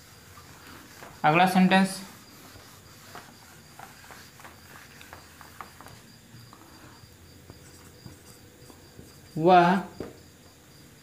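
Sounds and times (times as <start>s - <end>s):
cloth rubbing on whiteboard: 0.0s - 9.4s.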